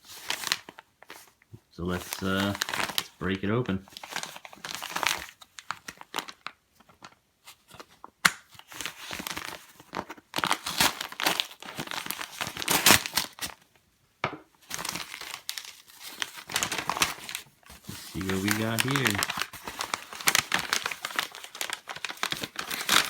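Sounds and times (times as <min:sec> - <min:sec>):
packaging crinkling and tearing: 0:00.0 - 0:13.6, 0:14.6 - 0:23.0.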